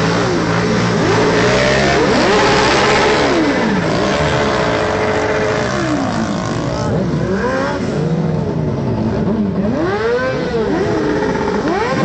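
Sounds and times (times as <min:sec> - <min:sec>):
steady engine rumble: 0:00.0 - 0:12.0
vehicle engines revving: 0:00.0 - 0:12.0.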